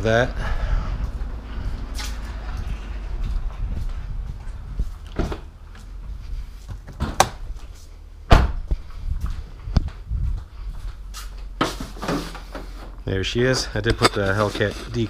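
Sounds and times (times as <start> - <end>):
footsteps: 0.5 - 15.0.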